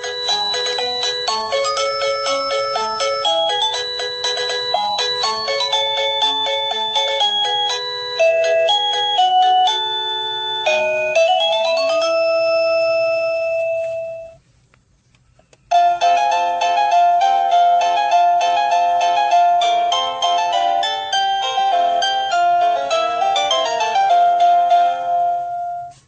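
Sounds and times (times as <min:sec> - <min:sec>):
doorbell chime tune: 0:00.0 - 0:14.4, 0:15.7 - 0:26.0.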